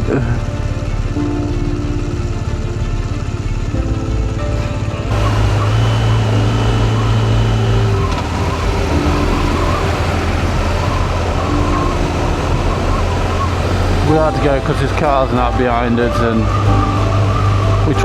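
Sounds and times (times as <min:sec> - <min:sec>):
motorcycle engine running: 0:00.0 - 0:17.9
road noise: 0:00.0 - 0:18.0.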